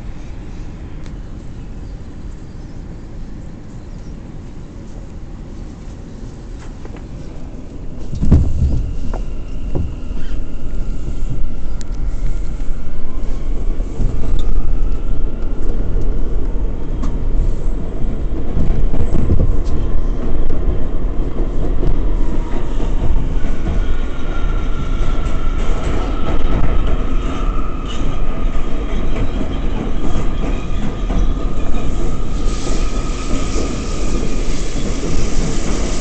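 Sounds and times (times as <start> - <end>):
subway wheels rumbling on track: 0.0 - 36.0.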